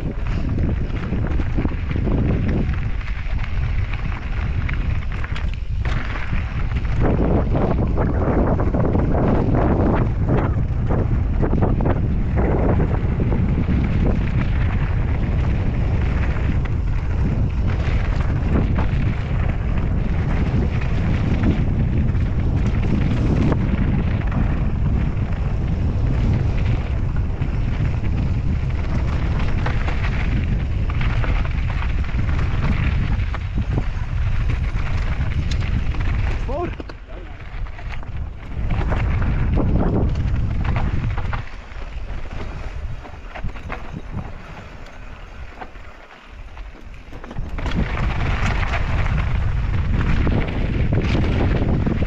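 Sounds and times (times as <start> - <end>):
bike knocks and rattles: 0.0 - 52.0
tyres on loose gravel: 0.0 - 52.0
wind buffeting microphone: 0.0 - 52.0.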